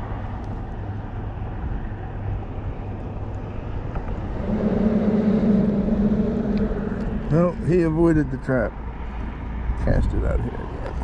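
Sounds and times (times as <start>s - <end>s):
loud steady engine hum: 0.0s - 11.0s
low engine rumble: 0.0s - 11.0s.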